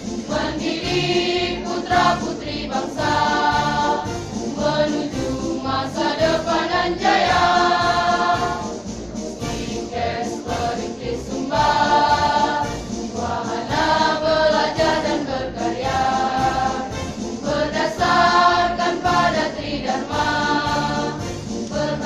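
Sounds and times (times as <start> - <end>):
women's choir singing a march: 0.0 - 22.0.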